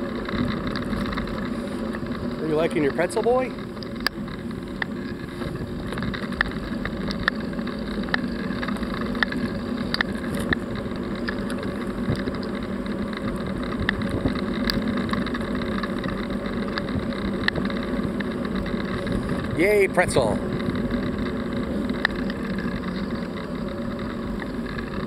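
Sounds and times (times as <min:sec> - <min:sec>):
bicycle riding rush: 0:00.0 - 0:25.0.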